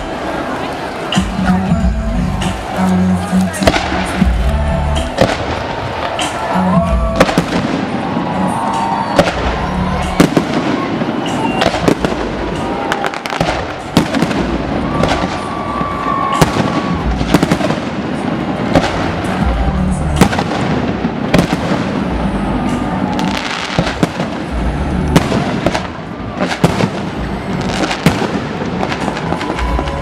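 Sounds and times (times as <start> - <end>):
fireworks cracks: 0.0 - 30.0
fireworks bangs: 2.4 - 30.0.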